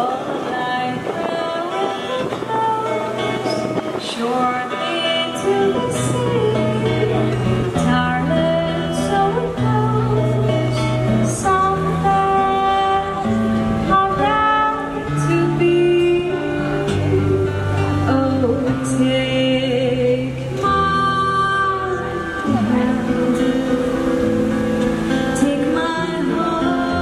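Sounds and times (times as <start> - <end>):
acoustic guitar: 0.0 - 27.0
woman singing: 0.0 - 27.0.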